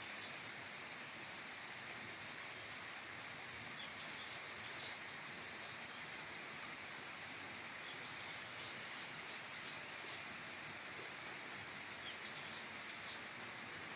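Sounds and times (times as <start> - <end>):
steady outdoor hiss: 0.0 - 13.9.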